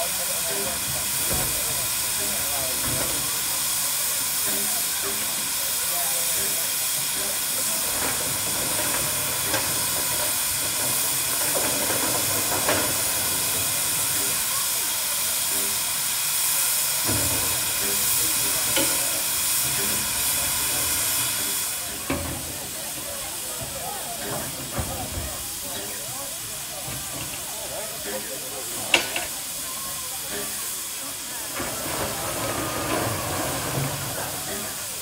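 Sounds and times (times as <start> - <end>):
steam hissing: 0.0 - 35.0.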